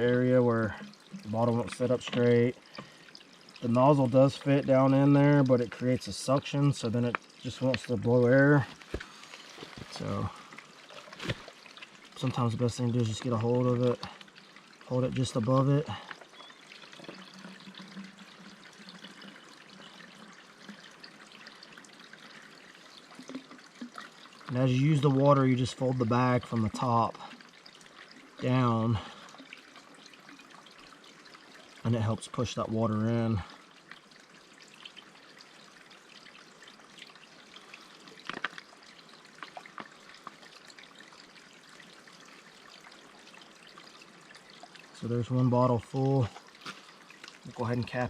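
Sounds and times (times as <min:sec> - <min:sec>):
water trickling into bottle: 0:00.0 - 0:48.0.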